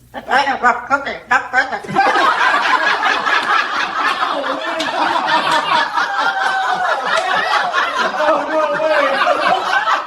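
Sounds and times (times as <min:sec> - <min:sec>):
hearty laughter: 0:01.8 - 0:10.0.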